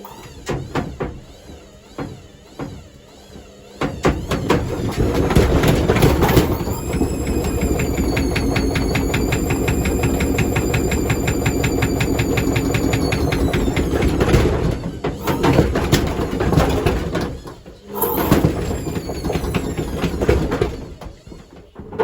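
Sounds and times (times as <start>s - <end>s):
washing machine motor whine: 0.0s - 22.0s
washing machine knocking: 0.1s - 1.4s, 3.8s - 22.0s.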